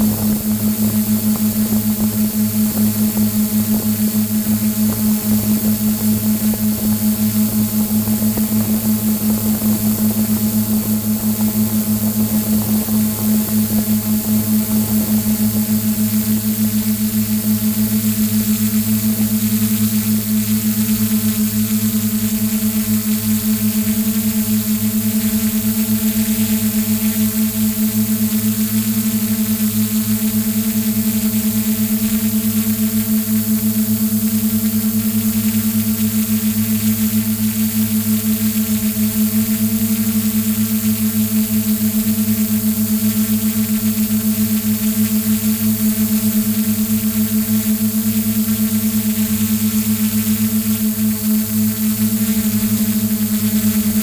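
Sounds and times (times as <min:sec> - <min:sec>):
constant hiss: 0:00.0 - 0:54.0.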